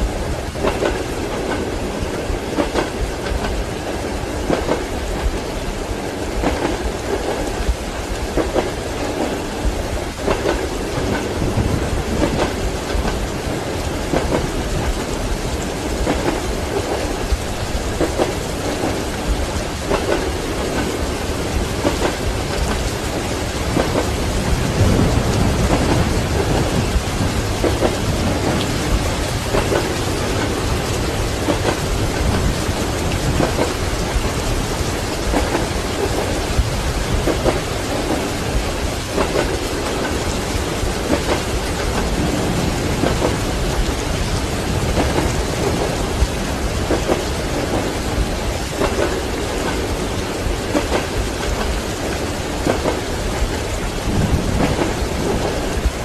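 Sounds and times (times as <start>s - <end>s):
heavy rain: 0.0s - 56.0s
low rumble of thunder: 0.0s - 56.0s
train wheels knocking on rail joints: 0.0s - 56.0s.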